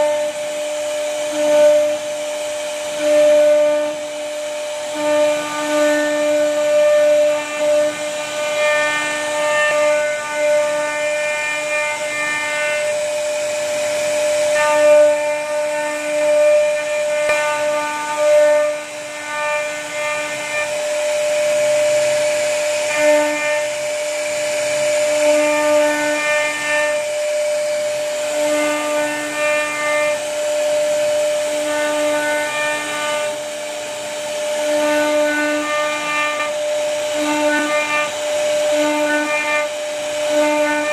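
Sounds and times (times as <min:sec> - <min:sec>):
router spindle cutting wood: 0:00.0 - 0:40.9.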